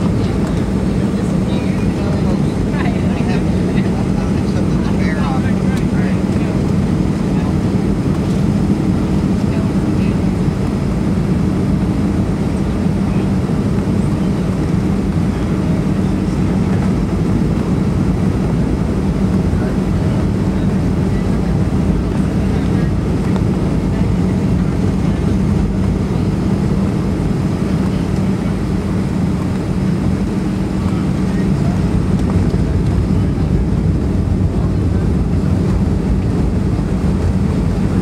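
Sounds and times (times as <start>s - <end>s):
airflow rushing in cockpit: 0.0s - 38.0s
low hum: 0.0s - 38.0s.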